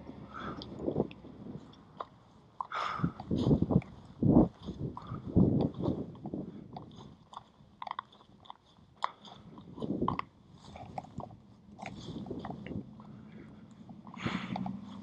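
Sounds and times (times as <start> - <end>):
bicycle rolling over gritty asphalt: 0.0 - 15.0.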